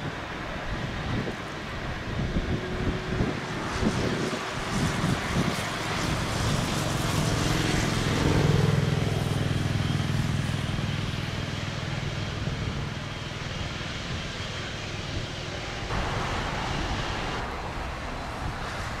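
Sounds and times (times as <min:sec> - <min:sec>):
jet engines droning with high whine: 0:00.0 - 0:19.0.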